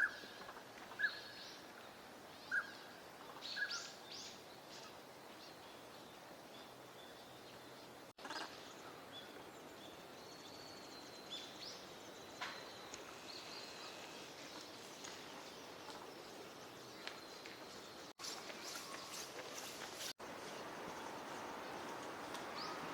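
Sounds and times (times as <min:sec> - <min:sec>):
faint outdoor background noise: 0:00.0 - 0:22.9.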